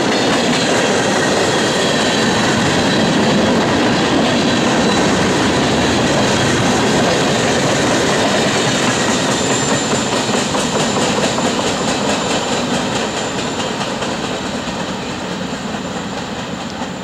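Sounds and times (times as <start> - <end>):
freight train cars rolling: 0.0 - 17.0
train wheels clicking: 0.0 - 17.0.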